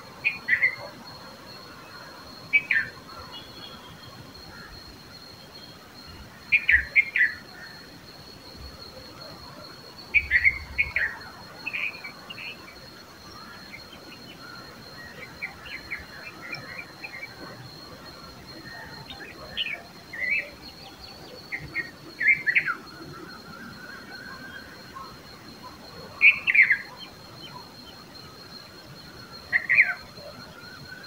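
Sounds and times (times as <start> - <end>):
birds chirping: 2.3 - 31.0.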